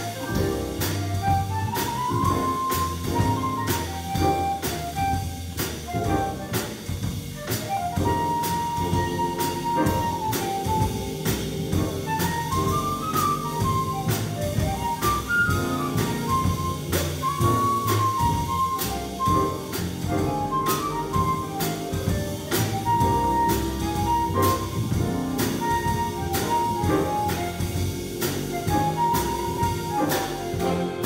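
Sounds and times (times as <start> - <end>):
drums on cymbals: 0.0 - 31.0
flute solo: 0.0 - 31.0
walking upright bass: 0.0 - 31.0.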